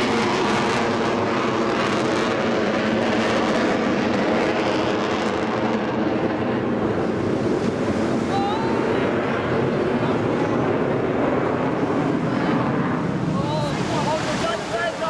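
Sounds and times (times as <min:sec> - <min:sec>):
jet engines roaring overhead: 0:00.0 - 0:15.0.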